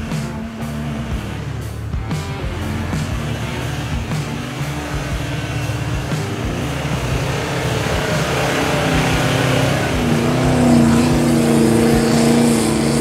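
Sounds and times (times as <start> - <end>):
diesel engine working hard: 0.0 - 13.0.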